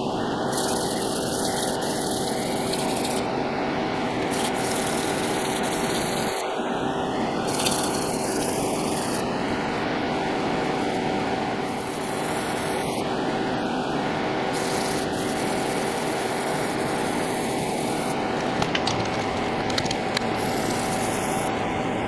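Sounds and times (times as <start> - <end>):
machine tool motor hum and whir: 0.0 - 22.0.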